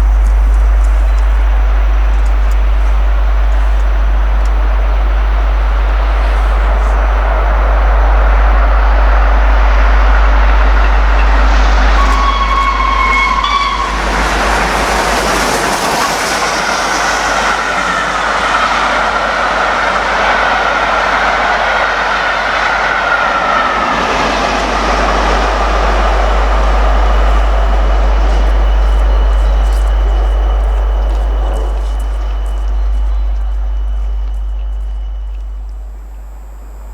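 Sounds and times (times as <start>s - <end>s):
steam locomotive whistle: 0.0s - 36.2s
steam train rushing past: 4.2s - 33.9s.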